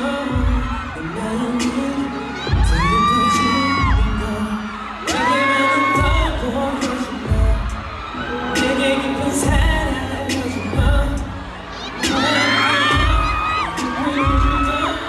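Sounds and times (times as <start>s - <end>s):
pop music with heavy bass beat: 0.0s - 15.0s.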